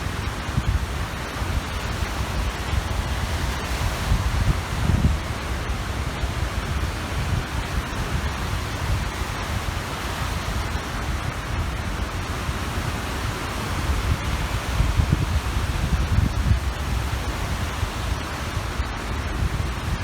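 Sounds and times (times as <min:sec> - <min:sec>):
small waves washing on shore: 0:00.0 - 0:20.0
wind buffeting microphone: 0:00.0 - 0:20.0.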